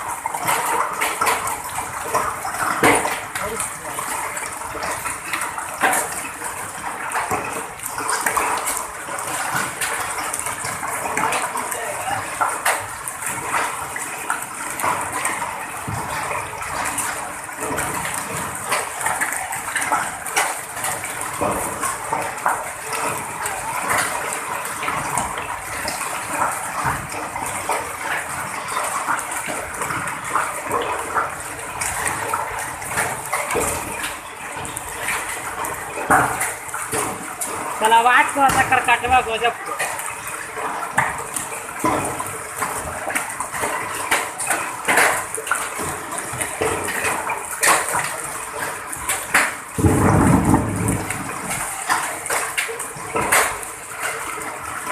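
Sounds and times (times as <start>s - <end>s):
rain pelting down: 0.0s - 54.9s
hailstones ticking: 5.8s - 54.9s.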